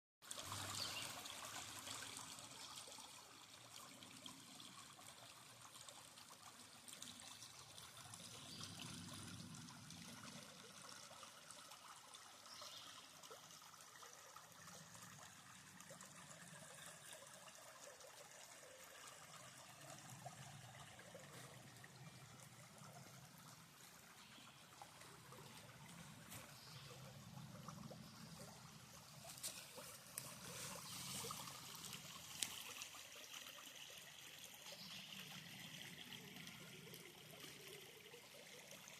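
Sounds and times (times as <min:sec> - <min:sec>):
faint trickling stream: 0:00.2 - 0:38.9.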